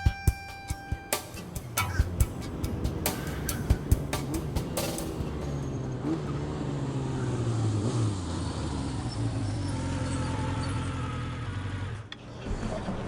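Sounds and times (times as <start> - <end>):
car engine running: 1.0 - 12.4.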